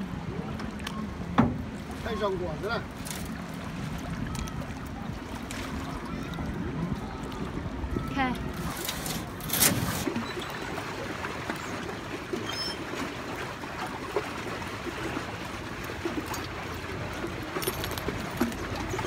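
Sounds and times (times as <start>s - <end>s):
water lapping around canoe: 0.0s - 19.0s.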